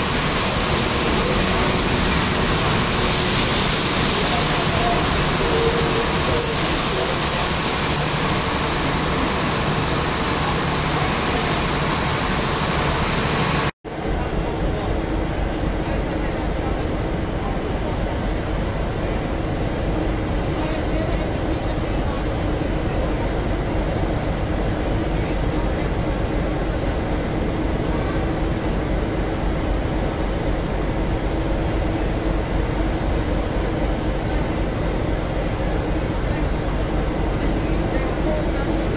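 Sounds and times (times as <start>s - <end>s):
diesel locomotives idling: 0.0s - 38.9s
low hum of railway equipment: 0.0s - 38.9s.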